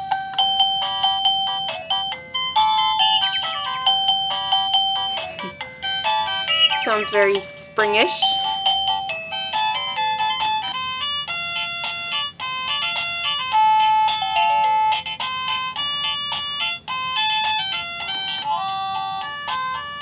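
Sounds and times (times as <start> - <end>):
doorbell chime melody of beeps: 0.0 - 7.3, 8.2 - 20.0.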